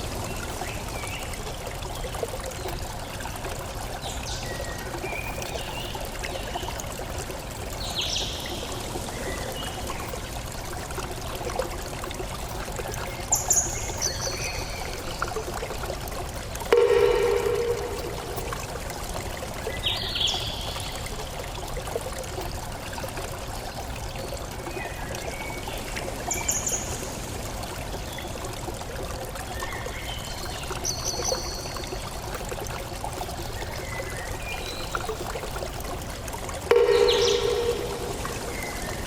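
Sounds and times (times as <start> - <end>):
water flowing and trickling: 0.0 - 39.0.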